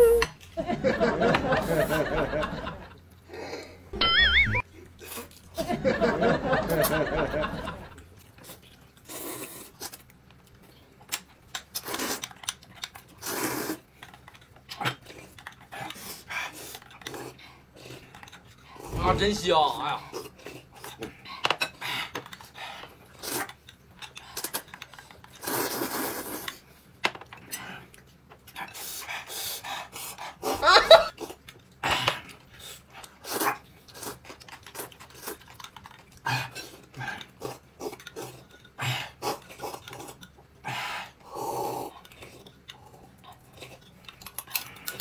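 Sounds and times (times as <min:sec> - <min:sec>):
slurping and chewing: 0:04.8 - 0:05.6, 0:08.0 - 0:19.0, 0:20.0 - 0:45.0.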